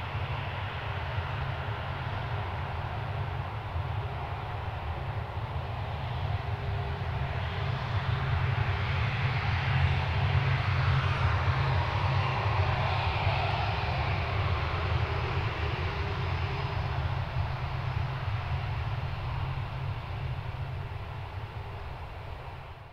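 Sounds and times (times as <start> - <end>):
jet engines rumbling and hissing: 0.0 - 22.9.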